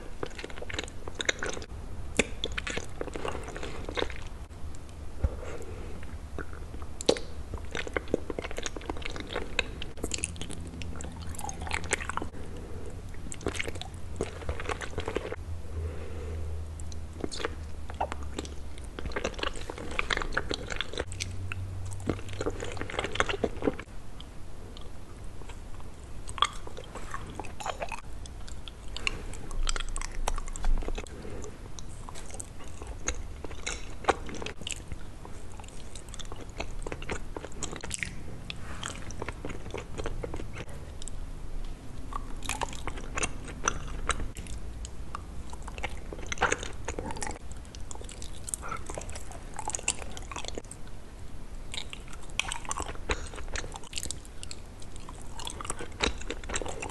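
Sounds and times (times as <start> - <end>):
chewing and biting: 0.0 - 15.4, 16.8 - 23.9, 24.7 - 41.2, 42.0 - 51.0, 51.7 - 56.9.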